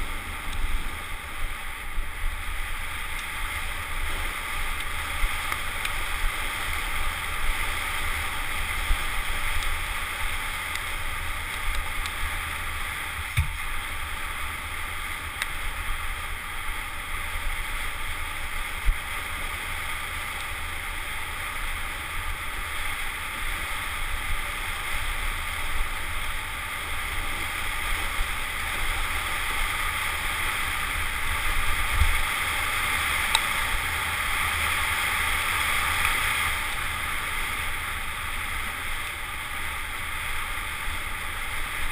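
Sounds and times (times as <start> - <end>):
bike trail noise: 0.0 - 41.9.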